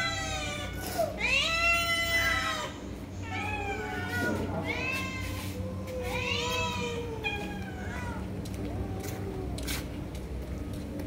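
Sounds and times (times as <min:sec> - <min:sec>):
cats meowing: 0:00.0 - 0:09.9.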